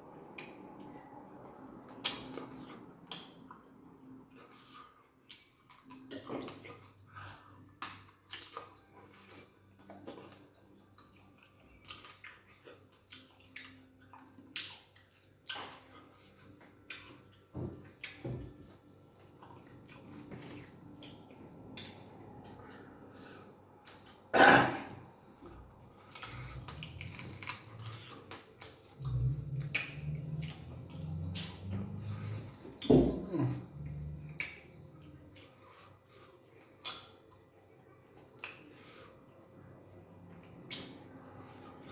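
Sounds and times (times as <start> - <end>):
wet chewing and lip smacks: 0.2 - 24.2, 25.4 - 41.9.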